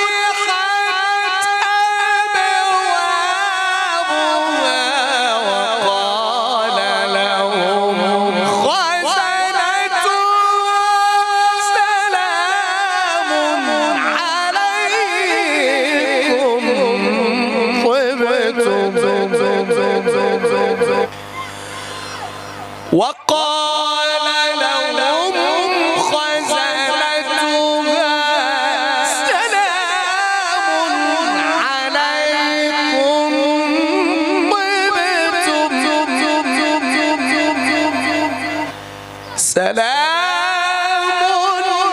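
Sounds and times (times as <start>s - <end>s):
man reciting melodically: 0.0s - 21.2s, 22.5s - 41.9s.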